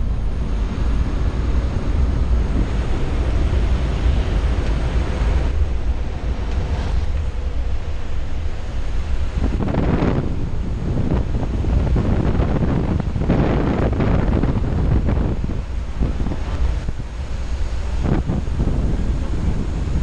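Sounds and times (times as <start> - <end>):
propeller aircraft engine: 0.0 - 20.0
wind rushing: 0.0 - 20.0.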